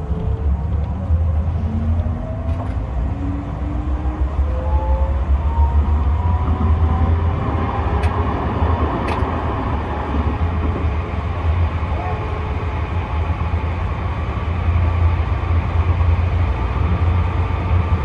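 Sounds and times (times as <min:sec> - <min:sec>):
tram rumbling along track: 0:00.0 - 0:18.0.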